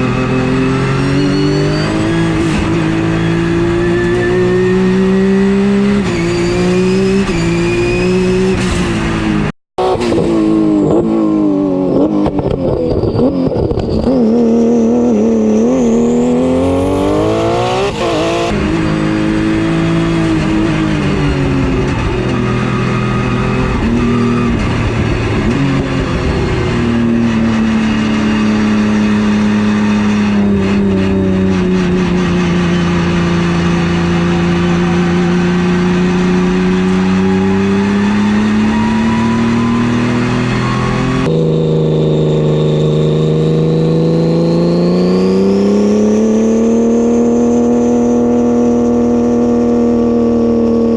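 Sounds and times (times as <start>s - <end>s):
race car engine accelerating: 0.0s - 50.9s.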